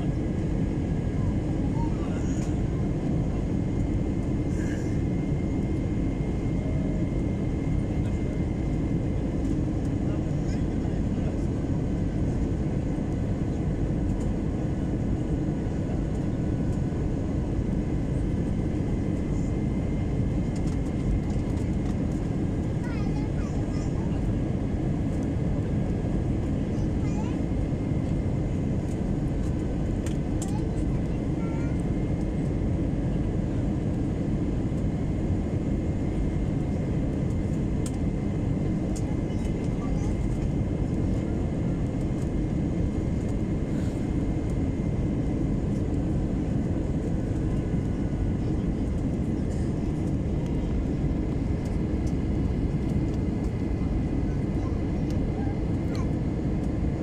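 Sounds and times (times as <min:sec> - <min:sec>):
engine and airflow rush: 0:00.0 - 0:57.0.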